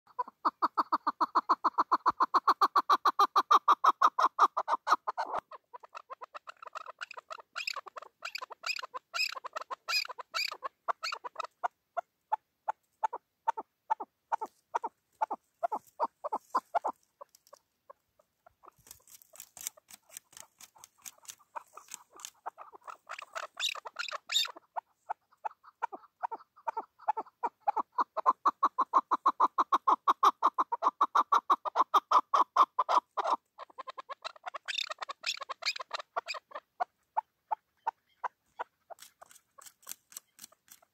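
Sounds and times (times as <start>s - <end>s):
partridge clucking calls: 0.1s - 40.9s.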